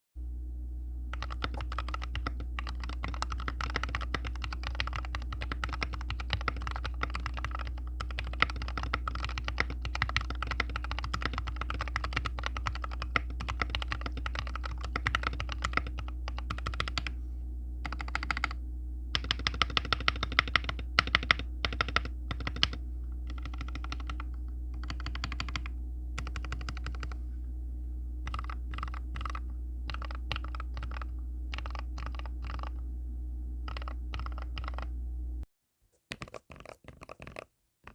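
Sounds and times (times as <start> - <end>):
steady low hum: 0.2 - 35.5
mechanical keyboard typing: 1.1 - 17.1, 17.8 - 18.6, 19.2 - 27.2, 28.2 - 32.8, 33.7 - 34.9, 36.1 - 37.9.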